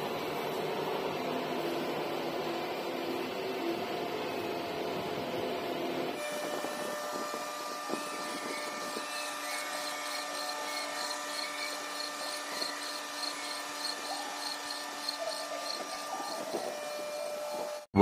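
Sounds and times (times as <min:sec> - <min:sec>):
boring machine whine: 0:00.0 - 0:18.0.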